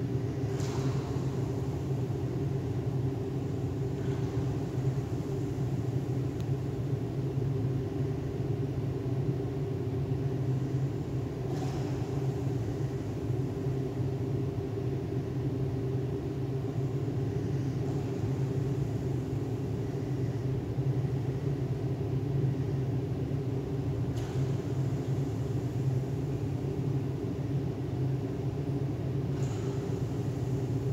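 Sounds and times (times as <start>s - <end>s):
low machinery hum: 0.0s - 30.9s.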